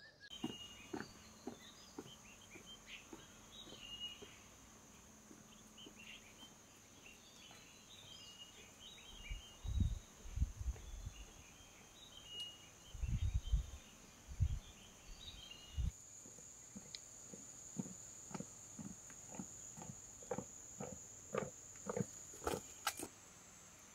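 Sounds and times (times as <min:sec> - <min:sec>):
small birds chirping: 0:00.0 - 0:23.0
insect drone: 0:00.3 - 0:23.9.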